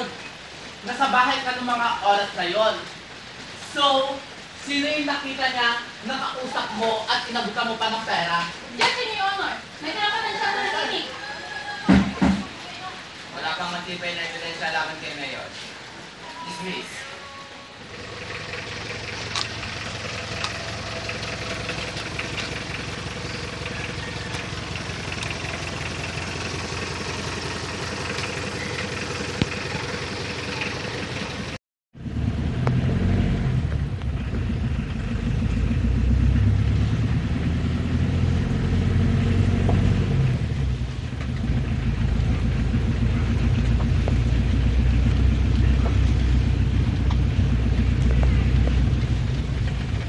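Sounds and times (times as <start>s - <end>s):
vehicle engine rumble: 0.0s - 11.2s, 17.6s - 50.0s
street noise with motor running: 0.0s - 16.8s, 17.6s - 50.0s
road noise: 0.0s - 50.0s.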